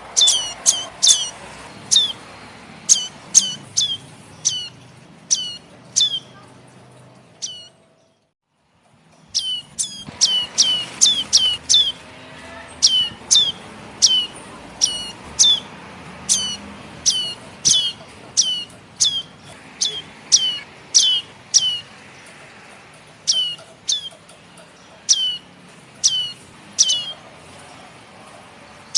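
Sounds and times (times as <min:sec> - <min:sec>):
young birds begging chirps: 0:00.0 - 0:06.5, 0:07.3 - 0:08.0, 0:09.2 - 0:28.9.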